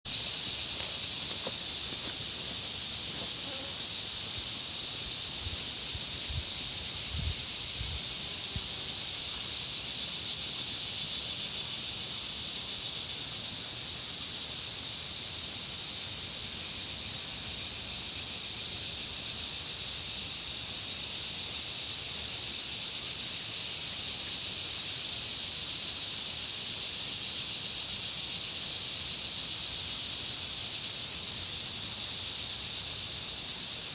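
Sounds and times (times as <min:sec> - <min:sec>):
high shimmering insect sound: 0:00.1 - 0:33.9
insects droning: 0:00.1 - 0:33.9.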